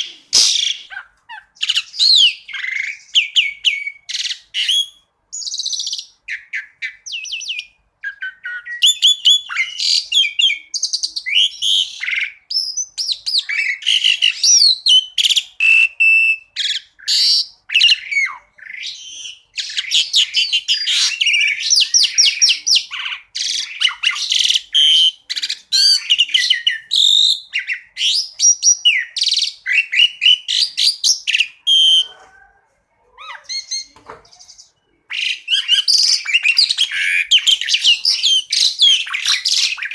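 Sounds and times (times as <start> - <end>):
starling whistling and trilling: 0.0 - 32.4, 33.2 - 39.9.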